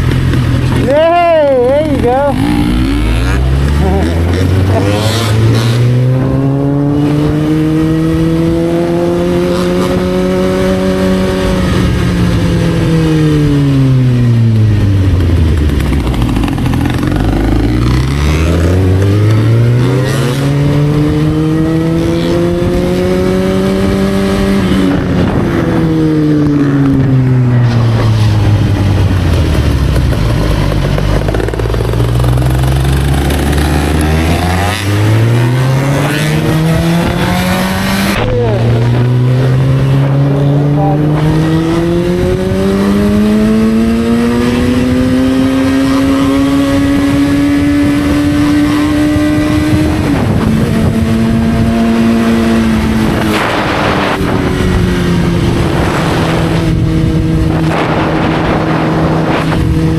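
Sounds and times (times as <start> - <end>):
motorcycle engine accelerating: 0.0 - 59.9
steady rushing noise: 0.0 - 59.9.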